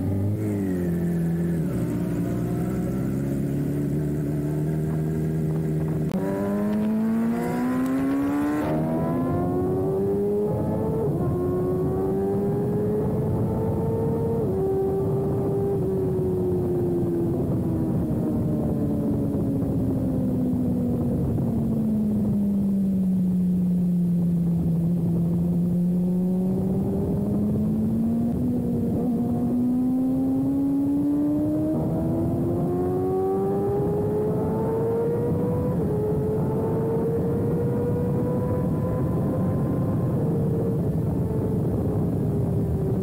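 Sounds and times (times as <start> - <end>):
motorcycle engine at speed: 0.0 - 43.0
wind noise: 0.0 - 43.0.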